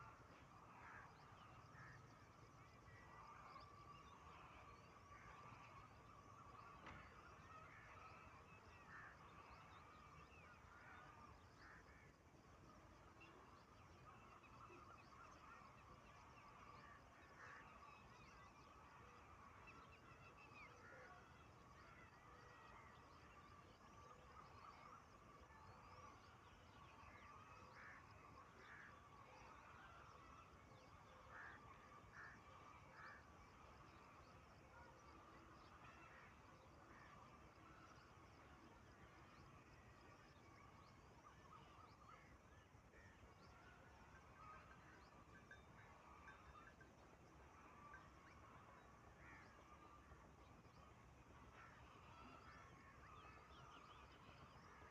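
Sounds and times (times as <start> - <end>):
bird calls and chirps: 0.0 - 54.9.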